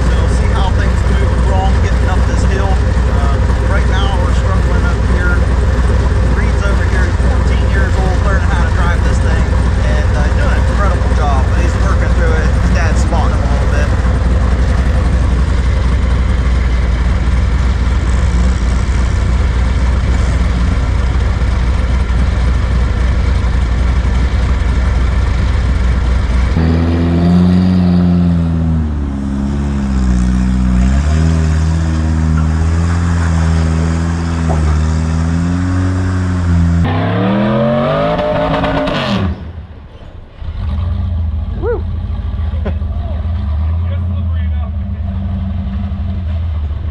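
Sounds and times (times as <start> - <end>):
buggy engine revving: 0.0 - 46.9.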